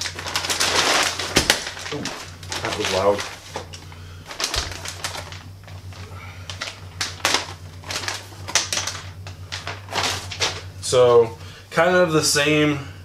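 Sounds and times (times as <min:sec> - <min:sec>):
plastic wrap crinkling: 0:00.0 - 0:10.8
steady low hum: 0:00.0 - 0:13.0.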